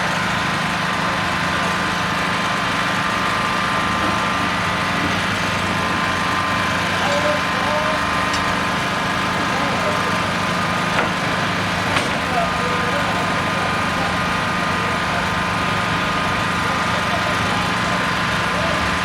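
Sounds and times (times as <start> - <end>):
engine running with whine: 0.0 - 19.0.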